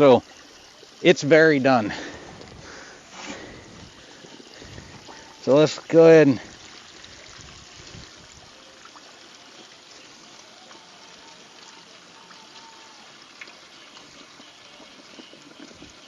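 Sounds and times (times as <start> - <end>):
hot oil bubbling and sizzling: 0.0 - 16.0.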